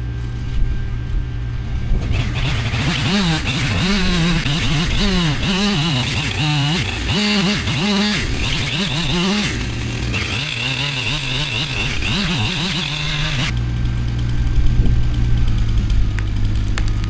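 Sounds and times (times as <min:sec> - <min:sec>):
steady low hum: 0:00.0 - 0:17.0
engine revving up and down: 0:01.4 - 0:17.0.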